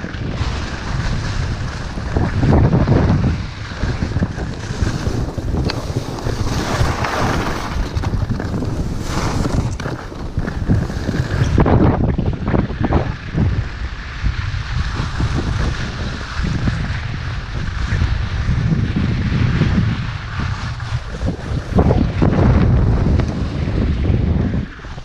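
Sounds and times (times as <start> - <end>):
skis scraping on snow: 0.0 - 25.0
wind rushing over microphone: 0.0 - 25.0.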